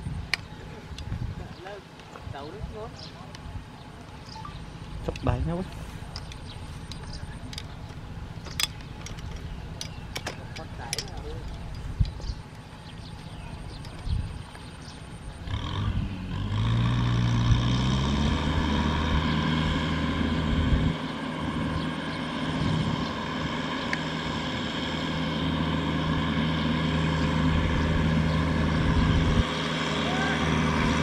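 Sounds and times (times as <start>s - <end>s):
tractor diesel engine revving: 2.6s - 31.0s.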